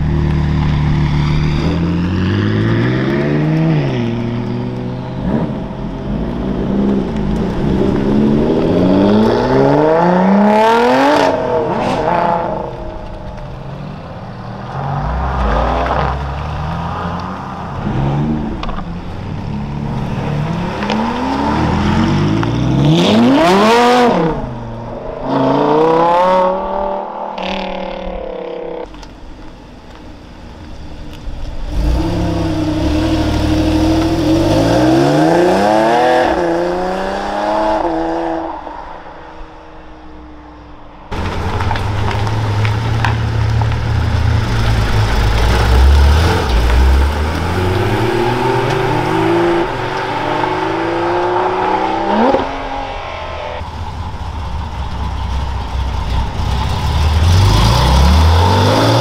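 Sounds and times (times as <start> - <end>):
sports cars accelerating: 0.2 - 28.9, 31.6 - 53.9, 56.1 - 59.0.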